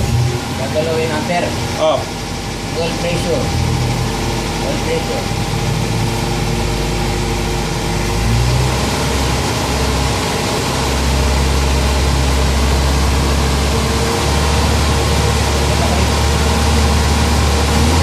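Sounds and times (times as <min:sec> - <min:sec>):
car engine humming: 0:00.0 - 0:18.0.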